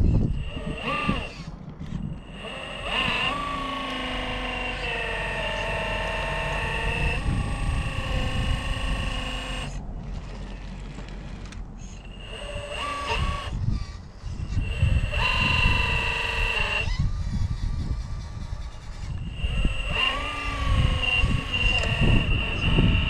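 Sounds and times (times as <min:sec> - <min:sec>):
electric motor whining: 0:00.0 - 0:23.0
wind buffeting microphone: 0:00.0 - 0:23.0.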